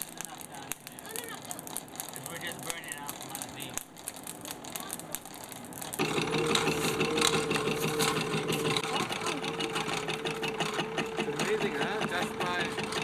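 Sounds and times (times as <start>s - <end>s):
small engine rattling and whining: 0.0s - 13.0s.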